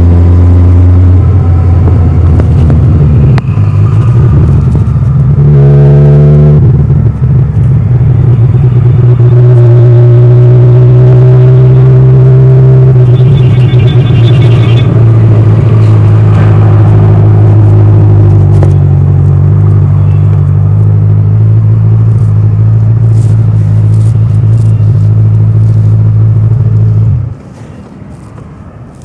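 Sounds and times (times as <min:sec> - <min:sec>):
motorcycle engine running: 0:00.0 - 0:27.3.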